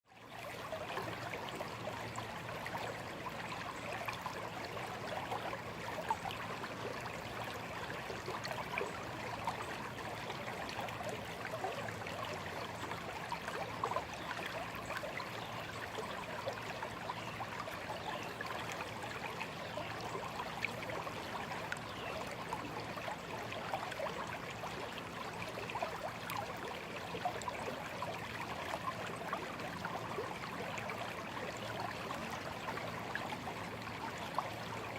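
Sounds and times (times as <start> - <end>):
stream babbling over stones: 0.2 - 34.9.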